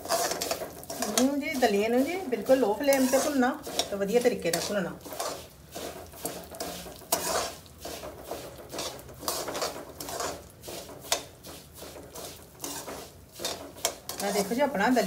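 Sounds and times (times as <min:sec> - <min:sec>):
metal spatula scraping a kadai: 0:00.0 - 0:15.0.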